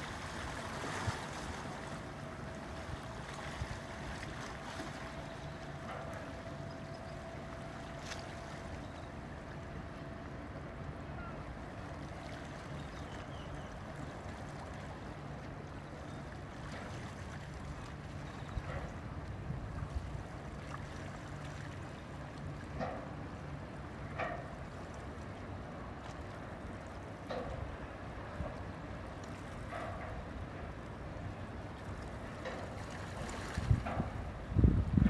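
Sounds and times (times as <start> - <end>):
ship engines droning: 0.0 - 35.0
wind: 0.0 - 35.0.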